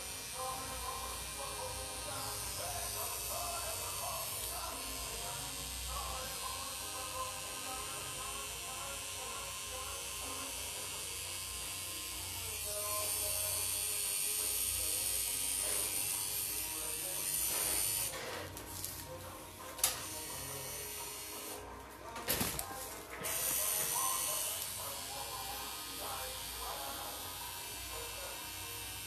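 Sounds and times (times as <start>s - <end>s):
tattoo machine buzzing: 0.0s - 19.0s, 19.8s - 21.6s, 22.5s - 29.0s.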